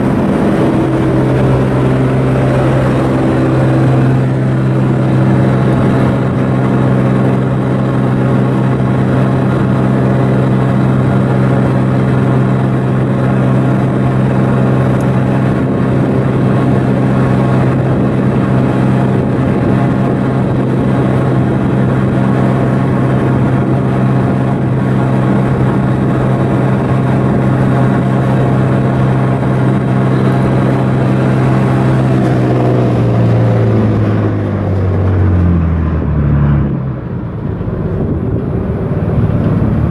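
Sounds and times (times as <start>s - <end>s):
ship diesel engine humming: 0.0s - 39.9s.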